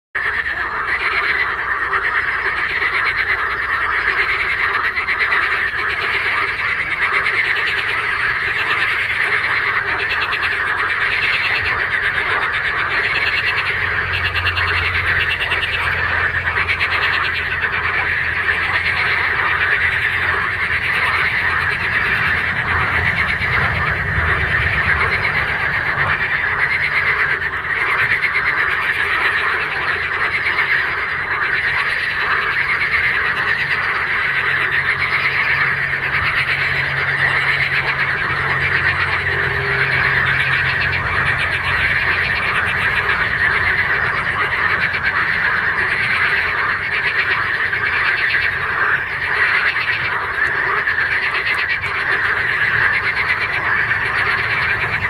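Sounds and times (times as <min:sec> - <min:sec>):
frogs calling in chorus: 0:00.2 - 0:55.0.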